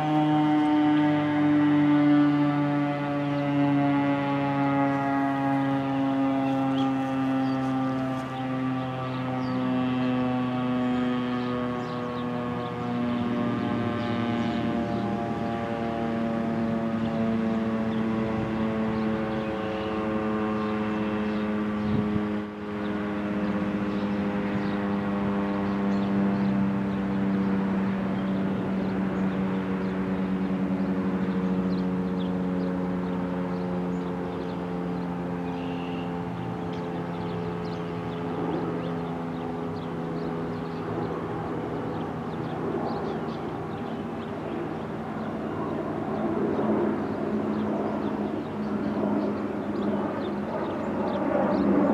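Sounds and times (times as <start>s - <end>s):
tornado siren winding down: 0.0s - 51.9s.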